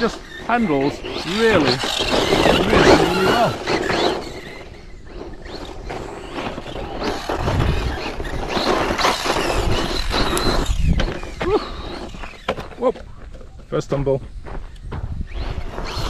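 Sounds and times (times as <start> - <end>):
high motor whine: 0.0 - 13.6, 14.5 - 16.0
tyres on dirt: 0.0 - 16.0.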